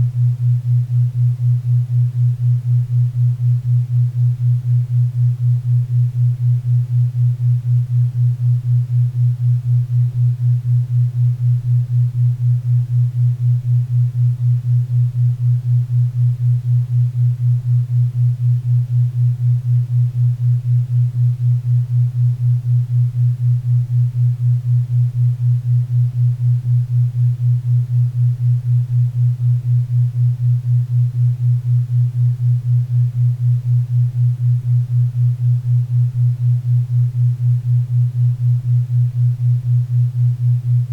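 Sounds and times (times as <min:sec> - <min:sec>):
pulsing low hum tone: 0:00.0 - 0:40.9.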